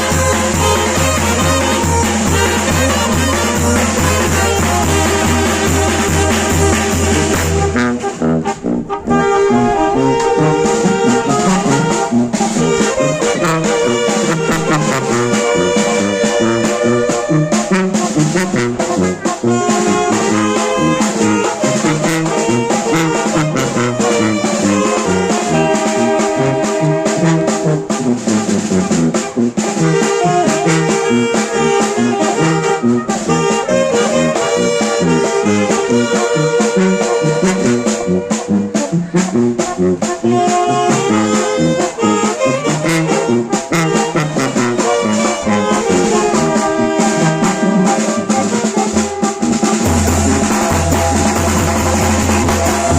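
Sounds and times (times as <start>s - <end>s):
brass band playing: 0.0s - 52.9s
percussion beats: 0.0s - 52.9s.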